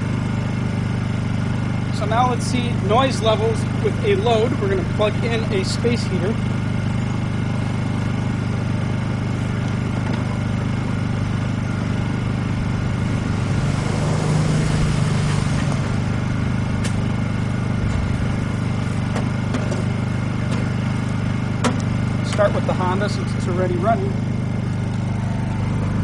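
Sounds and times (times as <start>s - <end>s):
generator engine humming: 0.0s - 26.0s.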